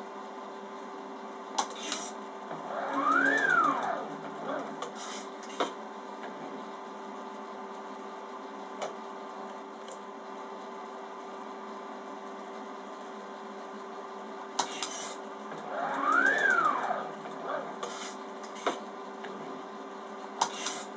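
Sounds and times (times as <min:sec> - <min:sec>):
machine electrical hum and whine: 0:00.0 - 0:20.9.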